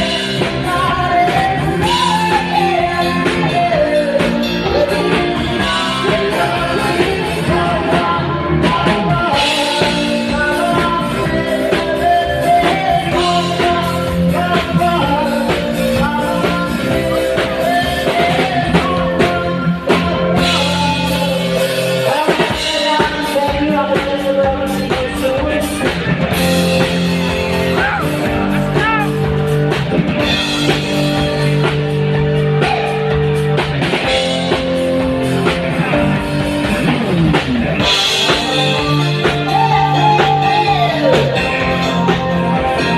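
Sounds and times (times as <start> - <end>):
drum kit: 0.0 - 42.9
guitar: 0.0 - 42.9
person singing: 0.0 - 42.9.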